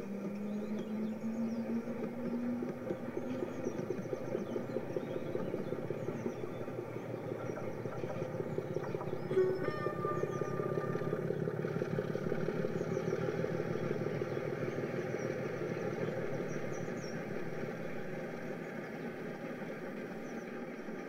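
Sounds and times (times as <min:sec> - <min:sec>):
small wheels ticking on track: 0:00.0 - 0:21.0.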